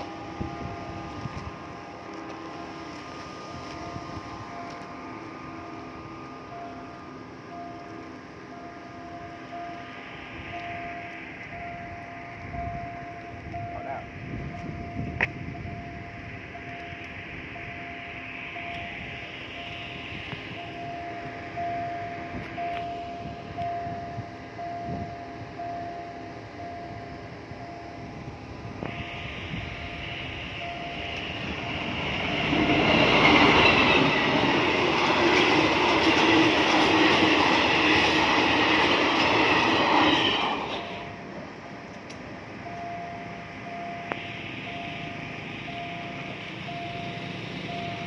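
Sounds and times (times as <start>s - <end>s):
diesel train passing: 0.0s - 48.0s
level crossing warning tone: 0.0s - 48.0s.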